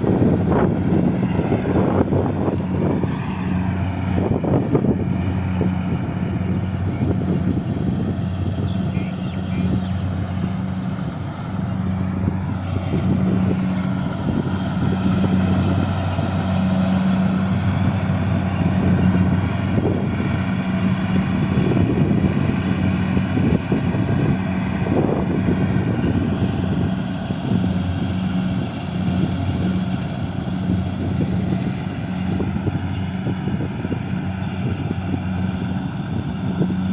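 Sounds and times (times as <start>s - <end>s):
harvester engine hum: 0.0s - 36.9s
rough mechanical noise: 0.0s - 36.9s.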